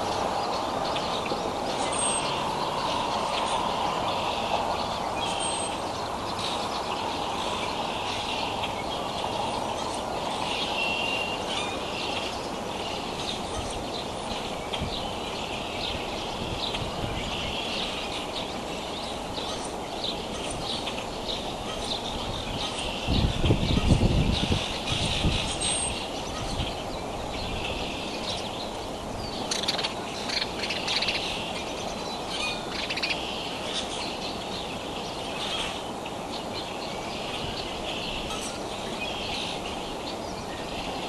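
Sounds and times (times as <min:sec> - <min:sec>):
small birds chirping: 0:00.0 - 0:41.0
steady outdoor rumble: 0:00.0 - 0:41.0.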